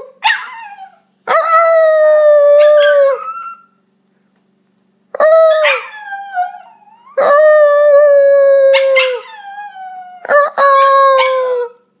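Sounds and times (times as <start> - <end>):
puppy howling: 0.2 - 3.8, 5.2 - 11.9.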